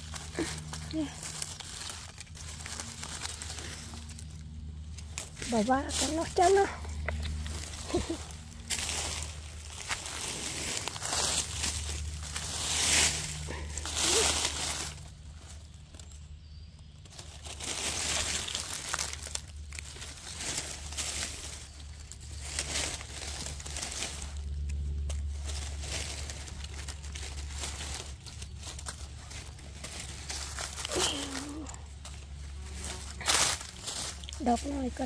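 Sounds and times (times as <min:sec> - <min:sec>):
dry leaves crunching and rustling: 0:00.0 - 0:35.0.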